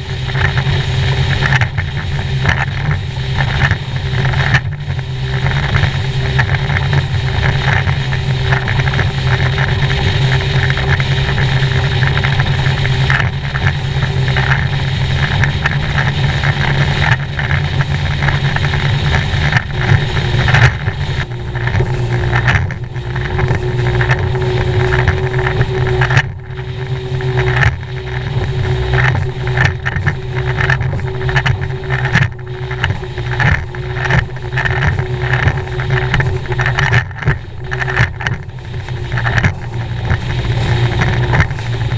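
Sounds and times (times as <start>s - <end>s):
hull slapping through waves: 0.0s - 41.9s
outboard engine droning: 0.0s - 41.9s
wind on microphone: 0.0s - 41.9s.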